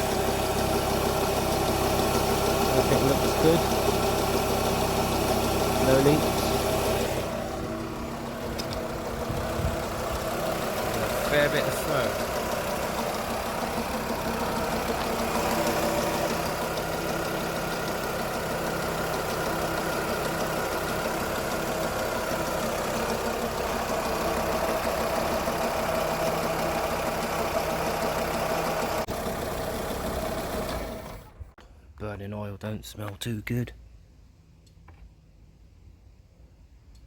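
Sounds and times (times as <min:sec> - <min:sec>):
car engine idling: 0:00.0 - 0:31.6.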